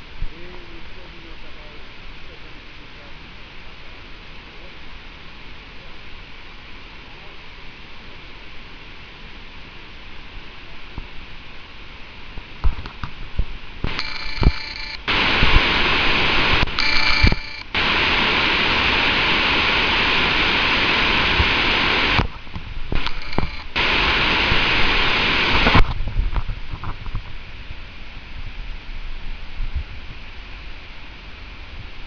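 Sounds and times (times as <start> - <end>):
waterfall hiss: 0.0 - 32.0.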